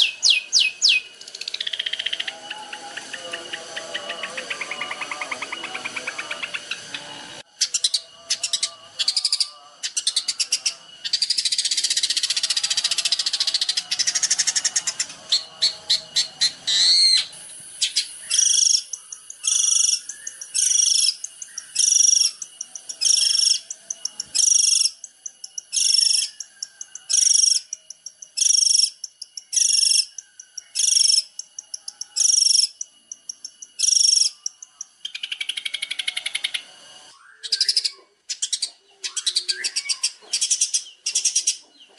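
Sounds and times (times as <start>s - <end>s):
songbird high whistled notes: 0.0s - 6.8s, 7.4s - 41.6s
songbird rattling trills: 0.0s - 36.4s.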